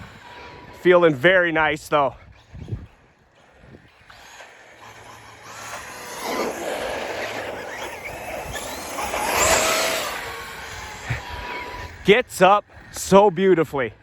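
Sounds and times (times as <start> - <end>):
tyre and drivetrain noise: 0.0 - 13.2
rc car motor whine: 0.0 - 13.4.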